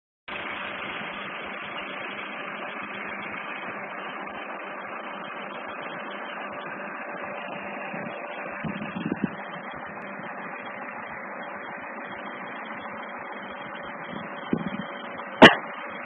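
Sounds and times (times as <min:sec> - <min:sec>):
engine running steadily: 0:00.3 - 0:16.0.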